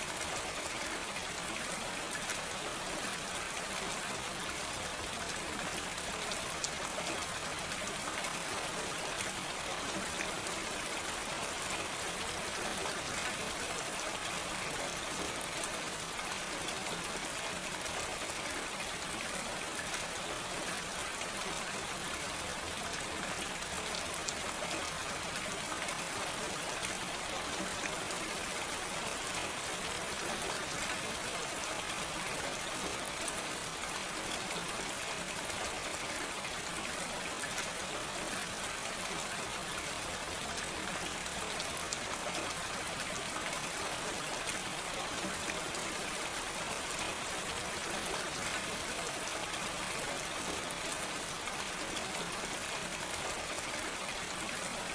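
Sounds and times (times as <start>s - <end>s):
gentle rain hiss: 0.0s - 54.9s.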